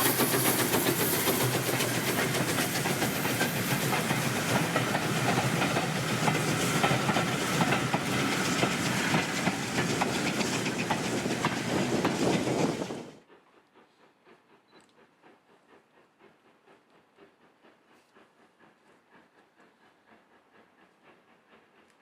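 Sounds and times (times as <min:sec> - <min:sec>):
train wheels clicking on rails: 0:00.0 - 0:22.0.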